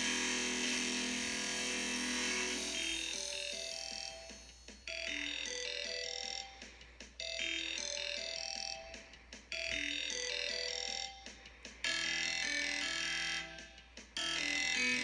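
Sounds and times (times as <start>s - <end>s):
electronic ringtone melody: 2.6s - 15.0s.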